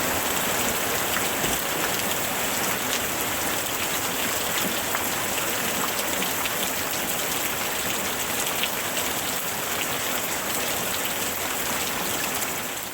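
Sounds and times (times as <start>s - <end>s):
heavy rain on leaves: 0.0s - 12.9s.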